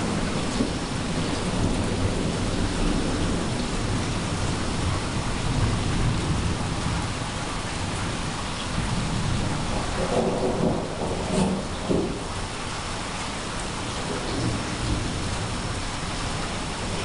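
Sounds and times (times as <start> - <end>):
rain falling: 0.0 - 17.0
rumble of thunder: 0.0 - 17.0.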